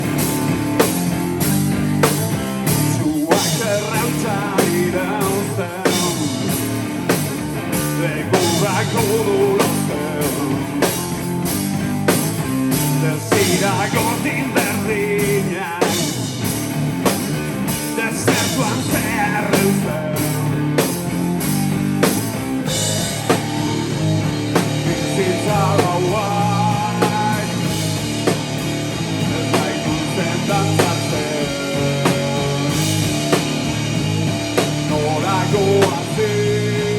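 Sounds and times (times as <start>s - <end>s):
distorted electric guitar: 0.0s - 36.9s
drum kit beat: 0.0s - 36.9s.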